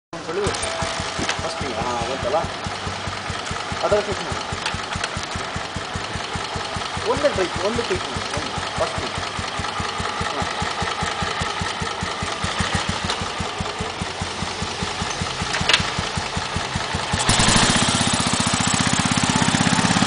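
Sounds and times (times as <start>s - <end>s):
motorcycle engine idling: 0.2s - 20.0s
motorcycle pulling away: 0.2s - 20.0s.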